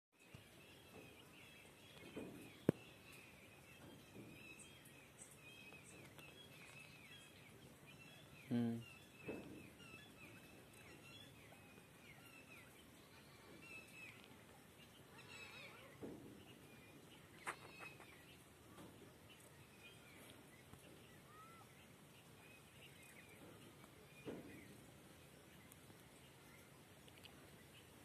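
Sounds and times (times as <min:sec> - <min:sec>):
faint bird chirps: 0:00.2 - 0:28.0.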